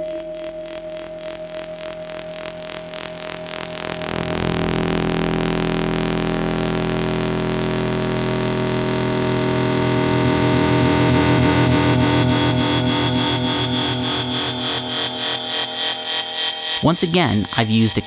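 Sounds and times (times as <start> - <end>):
filtered synth sequence: 0.0 - 18.0.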